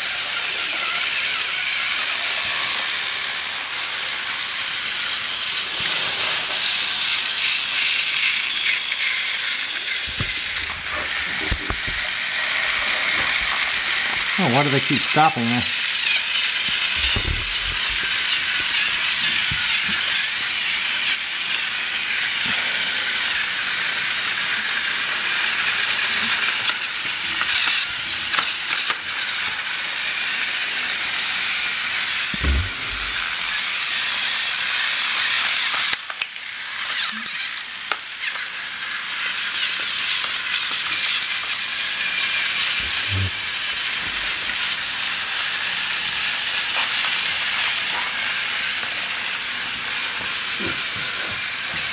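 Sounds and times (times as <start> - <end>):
toy trains whirring and clattering: 0.0 - 51.9.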